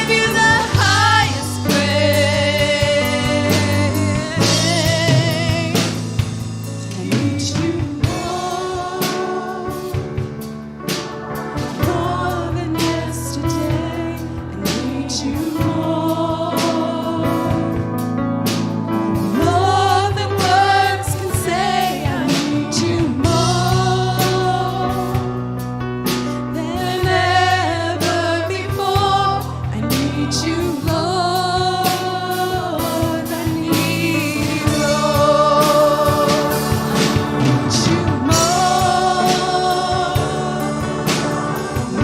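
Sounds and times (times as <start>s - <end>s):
group of voices singing: 0.0s - 6.1s, 6.8s - 10.3s, 11.6s - 17.9s, 19.2s - 25.4s, 26.5s - 42.0s
drum and cymbal hits: 0.0s - 42.0s
keyboard or bass notes: 0.0s - 42.0s.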